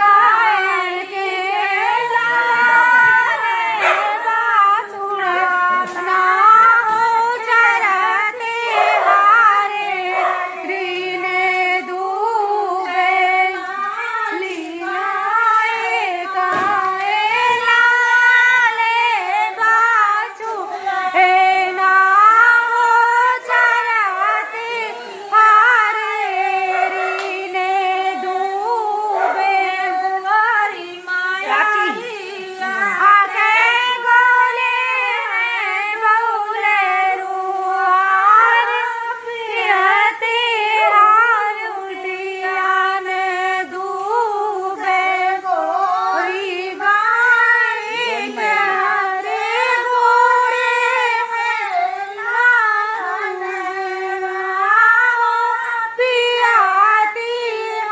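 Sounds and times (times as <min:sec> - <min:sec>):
women singing unaccompanied: 0:00.0 - 0:57.9.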